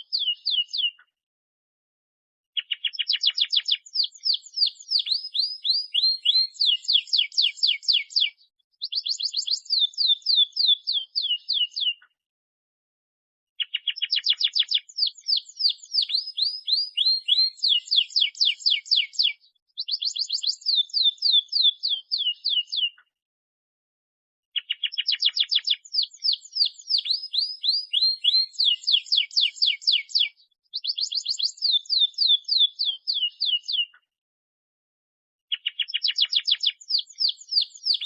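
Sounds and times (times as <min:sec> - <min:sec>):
canary singing trills: 0:00.0 - 0:01.0, 0:02.6 - 0:12.0, 0:13.6 - 0:23.0, 0:24.6 - 0:34.0, 0:35.5 - 0:38.0.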